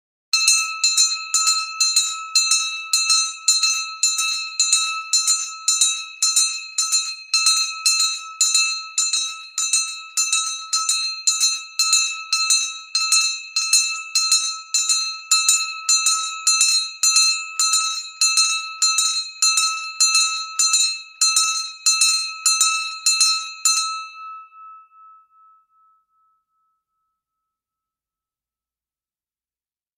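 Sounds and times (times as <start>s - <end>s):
large brass hand bell ringing: 0.4s - 26.5s.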